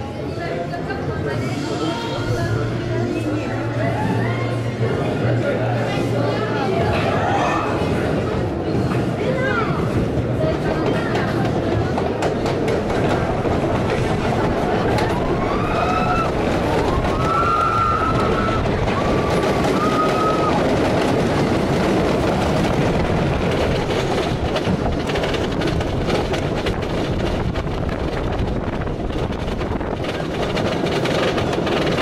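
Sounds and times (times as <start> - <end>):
roller coaster rumbling on track: 0.0 - 32.0.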